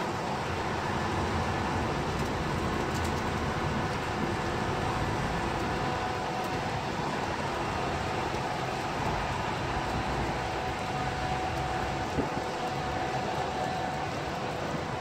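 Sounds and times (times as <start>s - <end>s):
city traffic hum: 0.0s - 15.0s
steady rain: 0.0s - 15.0s.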